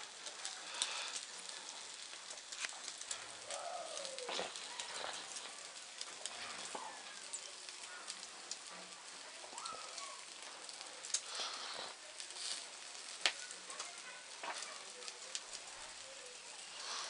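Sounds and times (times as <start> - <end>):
meat sizzling over charcoal: 0.0 - 17.0.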